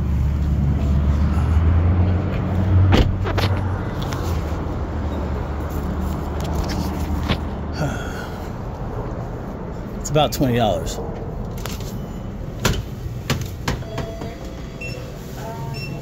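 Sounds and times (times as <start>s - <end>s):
motor vehicles rumbling: 0.0s - 16.0s.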